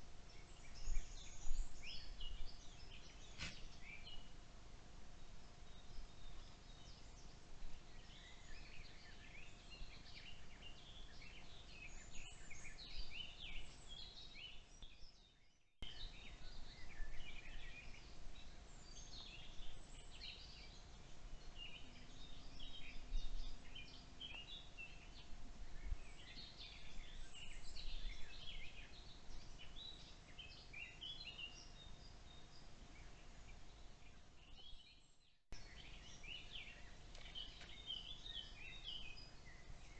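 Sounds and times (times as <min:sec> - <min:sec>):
faint steady hum: 0:00.0 - 0:15.2, 0:15.8 - 0:35.0
birds chirping and trilling: 0:00.2 - 0:04.3, 0:05.2 - 0:39.9.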